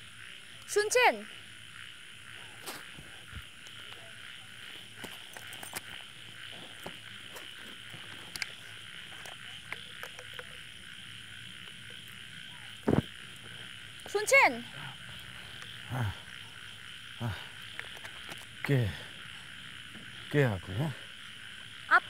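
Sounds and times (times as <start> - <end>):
frogs croaking and clicking: 0.0 - 22.0
insects high-pitched drone: 0.0 - 22.0.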